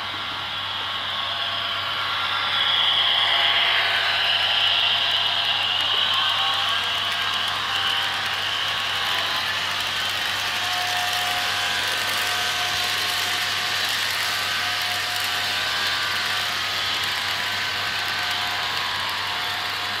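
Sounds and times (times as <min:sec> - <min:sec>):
model train wheels clattering: 0:04.0 - 0:20.0.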